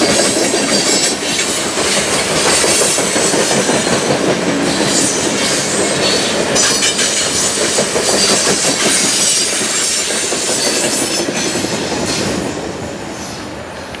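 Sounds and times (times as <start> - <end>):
high wheel squeal: 0.0 - 12.4
train wheels clattering over rails: 0.0 - 13.6.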